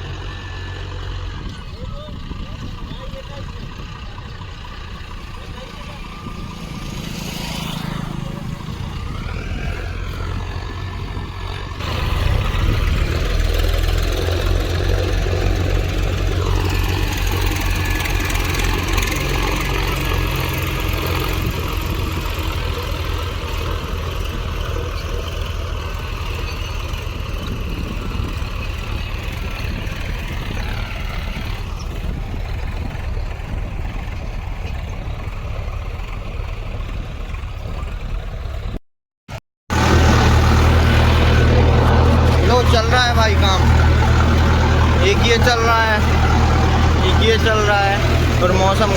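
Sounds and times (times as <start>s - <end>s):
tractor diesel engine running: 0.0s - 38.8s, 39.7s - 48.9s.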